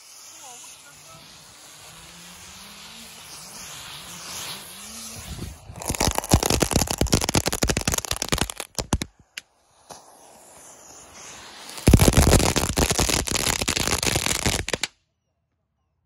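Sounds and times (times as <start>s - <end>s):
faint hiss: 0.0s - 14.9s
firework crackling: 0.0s - 14.9s.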